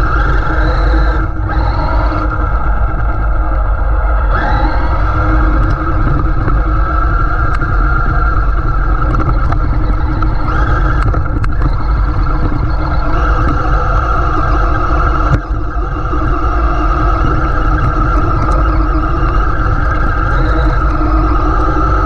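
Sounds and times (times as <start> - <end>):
electric motor whine: 0.0 - 22.0
toy truck rumbling over rough ground: 0.0 - 22.0.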